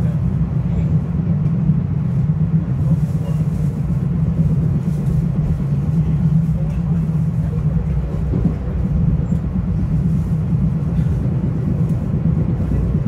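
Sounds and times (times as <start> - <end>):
train rumbling inside car: 0.0 - 13.0.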